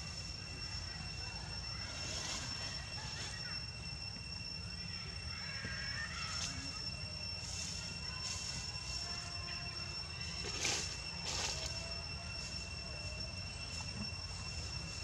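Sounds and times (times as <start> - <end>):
faint chirps or distant voices: 0.0 - 15.0
high-pitched whine: 0.0 - 15.0.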